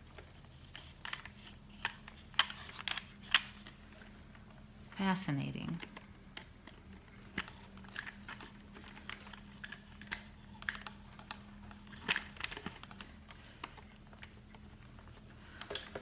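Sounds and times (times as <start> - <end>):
faint steady hum: 0.0 - 16.0
plastic parts clicking: 0.1 - 4.4, 5.8 - 16.0.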